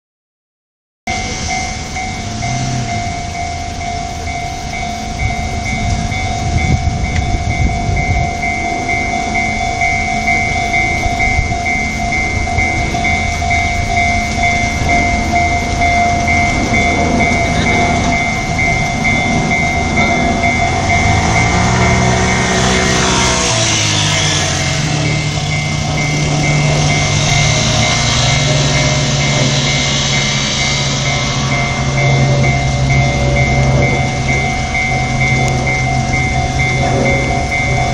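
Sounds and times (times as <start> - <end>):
electric train rumble: 1.1 - 37.9
level crossing bell ringing: 1.1 - 37.9.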